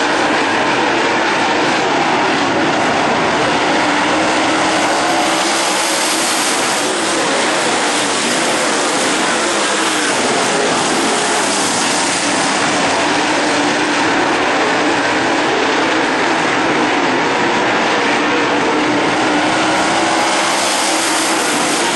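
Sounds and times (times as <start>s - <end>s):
race car engines roaring: 0.0s - 21.9s.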